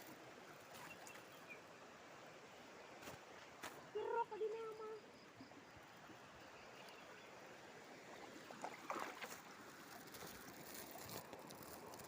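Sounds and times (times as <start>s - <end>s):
faint water noise: 0.0s - 12.0s.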